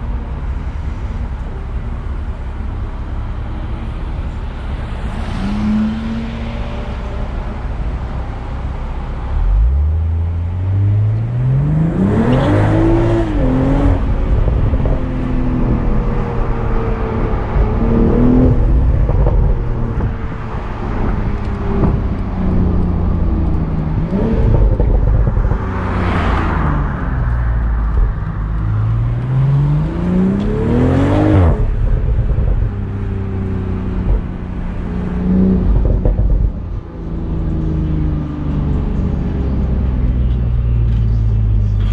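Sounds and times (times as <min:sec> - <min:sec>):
car engine accelerating hard: 0:04.0 - 0:41.9.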